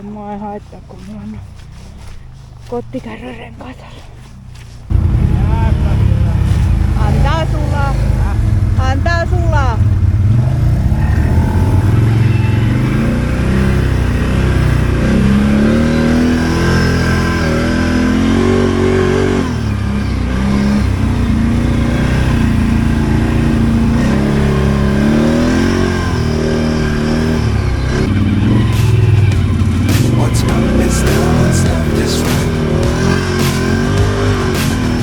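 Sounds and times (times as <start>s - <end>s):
atv engines revving: 0.0s - 35.0s.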